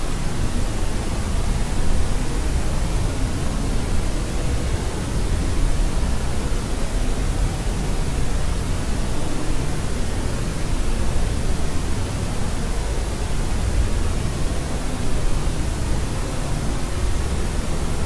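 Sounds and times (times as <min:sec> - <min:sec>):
steady white noise hiss: 0:00.0 - 0:18.0.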